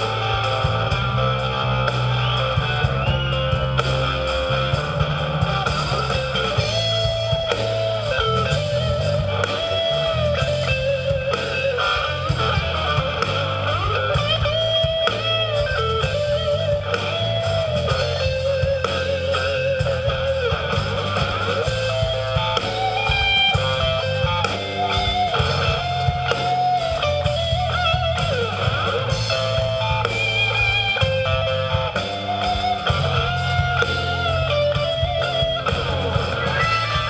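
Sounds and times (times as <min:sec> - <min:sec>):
blues-rock band playing: 0:00.0 - 0:37.0
electric guitar lead with vibrato: 0:00.0 - 0:37.0.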